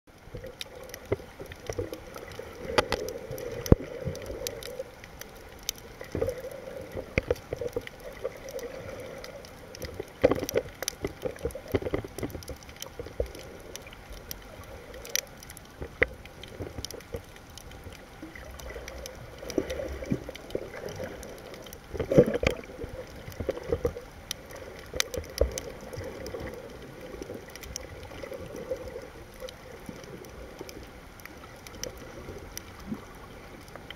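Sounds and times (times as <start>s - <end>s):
sharp underwater clicks and knocks: 0.1s - 33.9s
underwater gurgling water: 0.1s - 33.9s.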